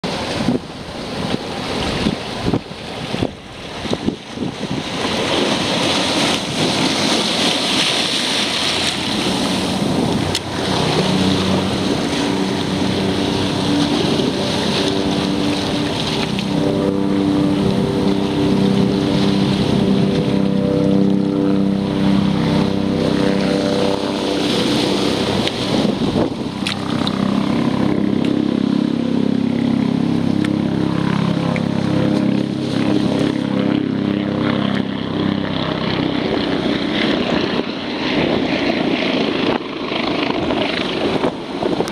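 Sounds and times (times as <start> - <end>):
choppy water around kayak: 0.0 - 41.9
helicopter engine and rotor hum: 0.0 - 41.9
wind on microphone: 0.0 - 41.9.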